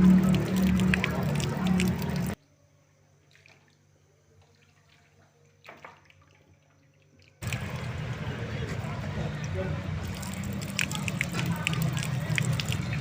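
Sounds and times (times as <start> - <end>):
liquid splashing and trickling: 0.0 - 2.4, 3.2 - 13.0.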